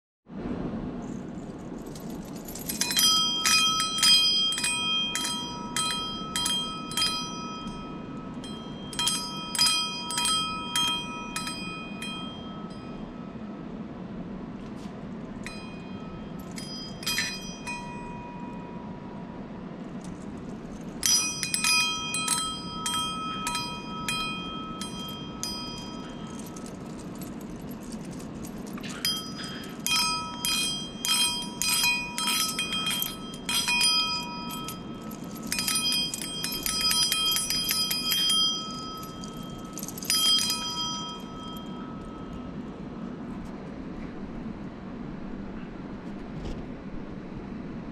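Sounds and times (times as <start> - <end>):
metal bells jingling: 1.0 - 13.3, 15.3 - 18.9, 19.8 - 42.7.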